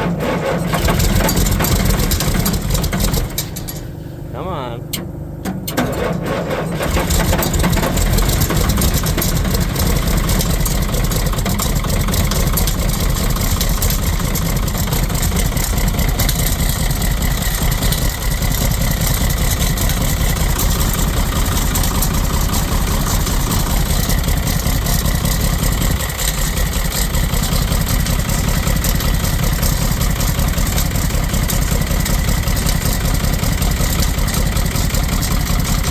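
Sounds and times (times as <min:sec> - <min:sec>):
diesel engine starting and idling: 0:00.0 - 0:35.9.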